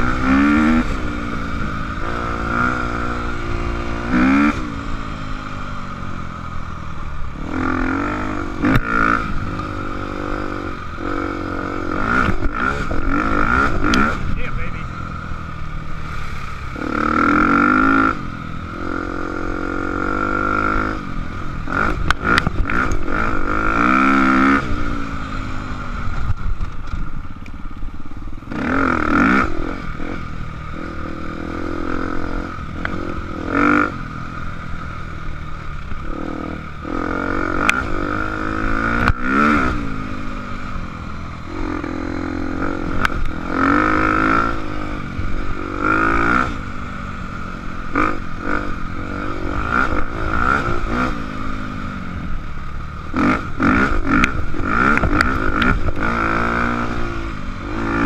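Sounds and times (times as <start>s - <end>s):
dirt bike engine revving: 0.0s - 27.2s, 28.4s - 58.0s.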